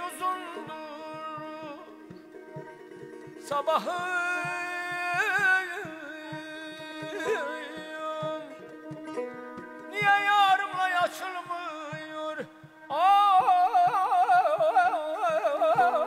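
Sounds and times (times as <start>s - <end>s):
man singing with throat ornaments: 0.0s - 2.0s, 3.5s - 9.2s, 9.8s - 16.0s
soft drum beats: 0.0s - 16.0s.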